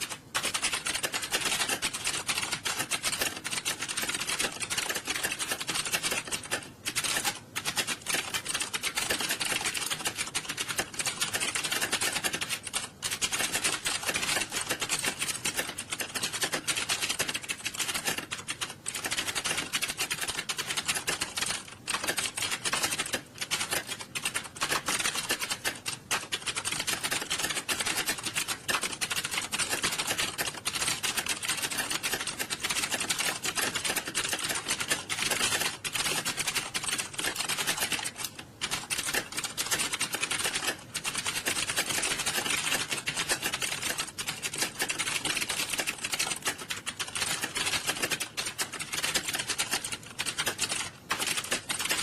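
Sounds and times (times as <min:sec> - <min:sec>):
many keyboards clattering: 0:00.0 - 0:52.0.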